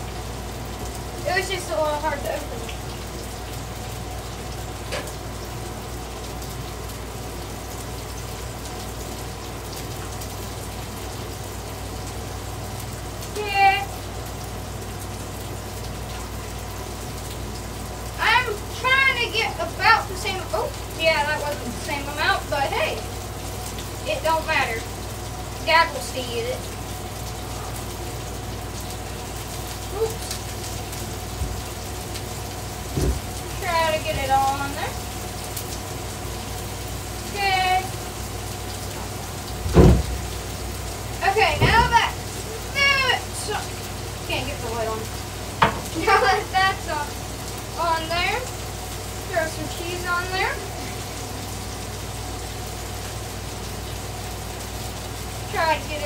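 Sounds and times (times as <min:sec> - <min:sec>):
food sizzling on a griddle: 0:00.0 - 0:56.0.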